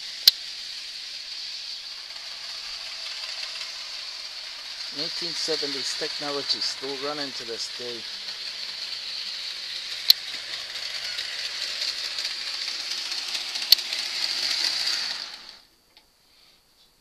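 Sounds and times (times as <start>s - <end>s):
model locomotive motor whir: 0.0s - 15.7s.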